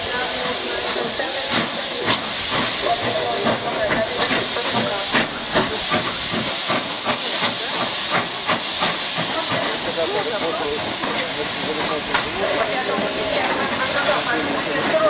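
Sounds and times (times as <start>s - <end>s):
steam hissing: 0.0s - 15.0s
steam locomotive exhaust chuffs: 0.0s - 15.0s.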